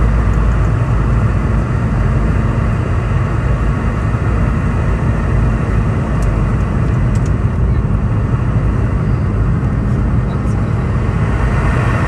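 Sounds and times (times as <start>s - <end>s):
airflow rushing in cabin: 0.0s - 12.0s
jet engines droning: 0.0s - 12.0s.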